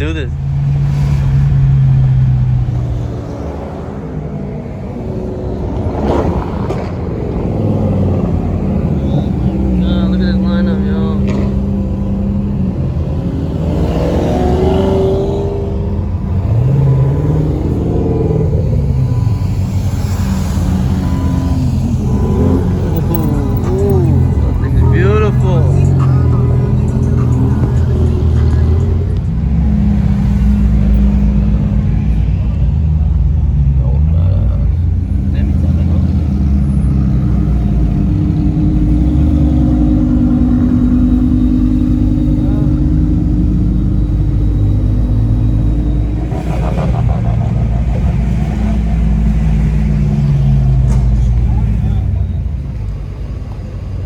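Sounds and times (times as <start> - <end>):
car engines and exhausts: 0.0 - 54.0
engine revving: 0.0 - 54.0.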